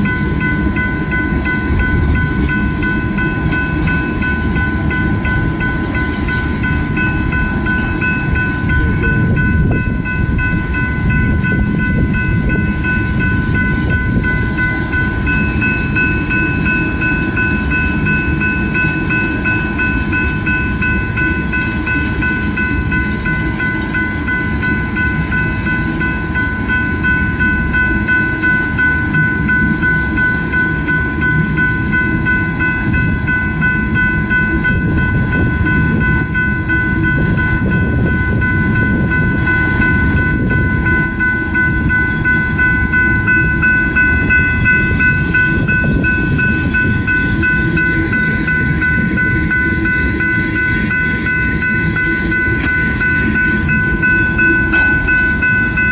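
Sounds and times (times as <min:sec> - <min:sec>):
crossing warning bell ringing: 0:00.0 - 0:55.9
train wheels rumbling on rails: 0:00.0 - 0:55.9.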